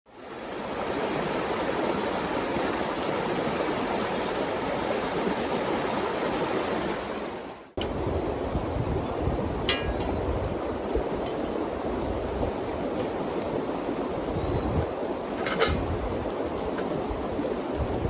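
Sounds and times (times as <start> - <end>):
river water flowing: 0.1 - 18.0.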